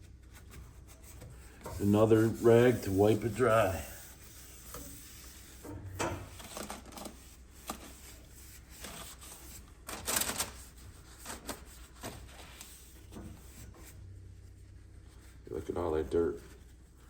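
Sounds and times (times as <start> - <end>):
cloth rag rubbing on steel tubing: 0.0 - 9.9, 10.5 - 17.0.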